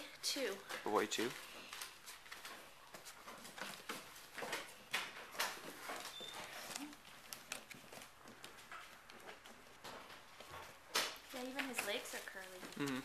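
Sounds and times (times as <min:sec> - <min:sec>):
puppies rustling and pattering: 0:00.0 - 0:13.0.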